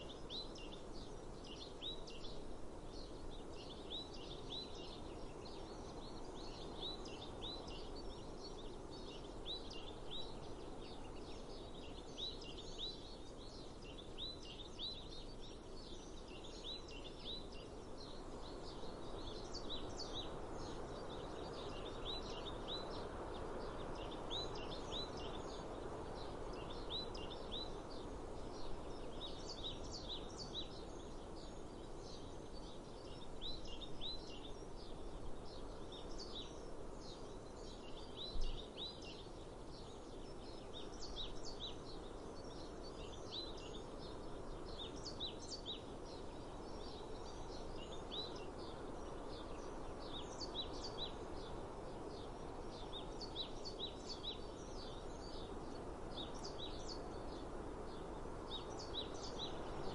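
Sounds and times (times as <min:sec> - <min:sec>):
outdoor background hiss: 0:00.0 - 0:59.9
small birds chirping: 0:00.0 - 0:59.9.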